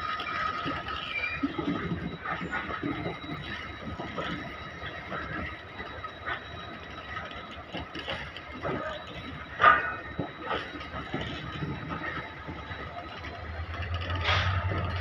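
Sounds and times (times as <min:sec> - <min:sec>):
freight train wagons rattling: 0:00.0 - 0:15.0
wheels squealing on rails: 0:00.0 - 0:15.0.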